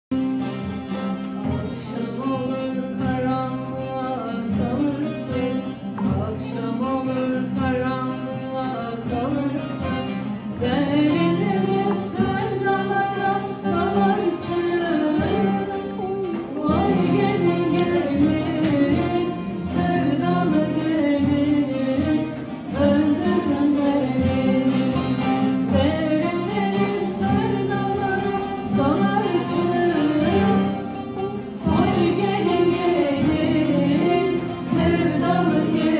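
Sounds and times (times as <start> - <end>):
plucked string instrument: 0.1 - 35.9
person singing a folk lament: 1.4 - 35.9.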